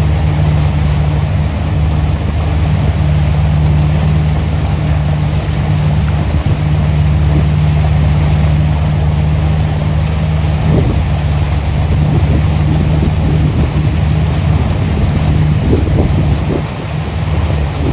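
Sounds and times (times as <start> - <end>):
boat engine droning: 0.0 - 17.9
water rushing past hull: 0.0 - 17.9
wind buffeting microphone: 0.0 - 17.9.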